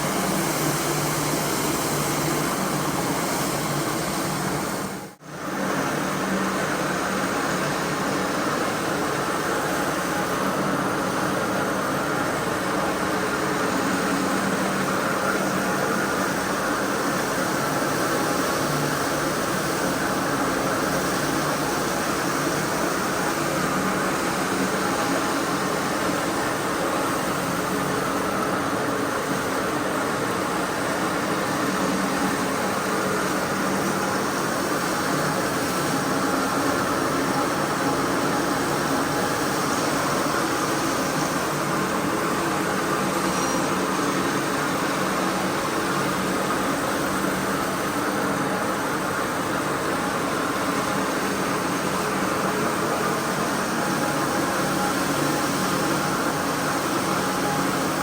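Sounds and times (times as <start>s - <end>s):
carpet cleaning machine running: 0.0s - 58.0s.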